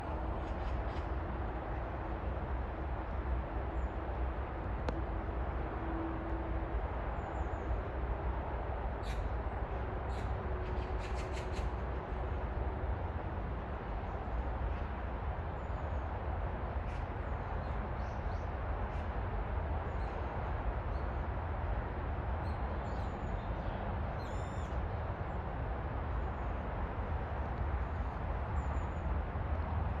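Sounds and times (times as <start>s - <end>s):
outdoor background rumble: 0.0s - 30.0s.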